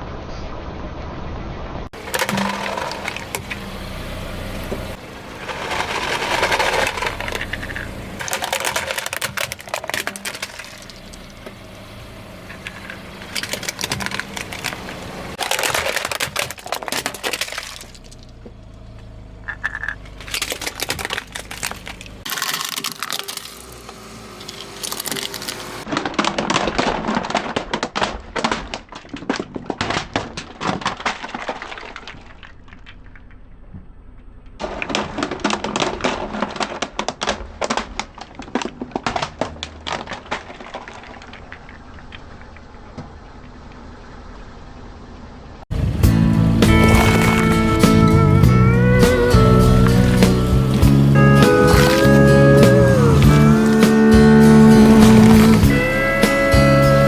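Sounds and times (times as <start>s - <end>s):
objects crunching under car tyres: 1.9s - 43.9s, 45.8s - 57.0s.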